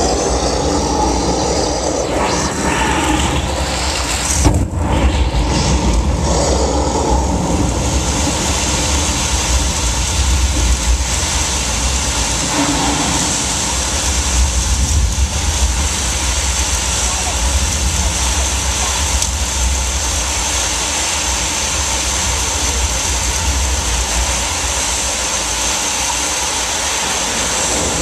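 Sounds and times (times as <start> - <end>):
low rumble with hiss: 0.0 - 28.0.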